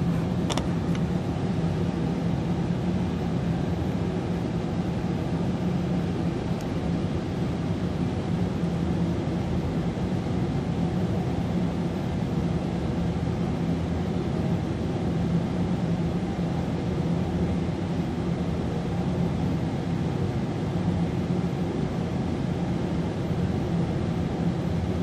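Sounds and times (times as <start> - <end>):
low background drone: 0.0 - 25.0.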